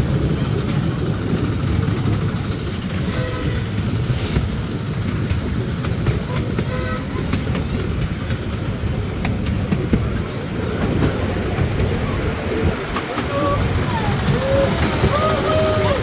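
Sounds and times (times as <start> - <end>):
miniature train rumble: 0.0 - 16.0.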